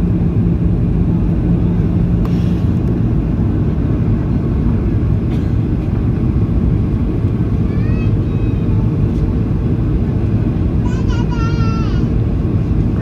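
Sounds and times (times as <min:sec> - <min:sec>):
airliner engines rumbling: 0:00.0 - 0:13.0
low steady hum: 0:00.0 - 0:13.0.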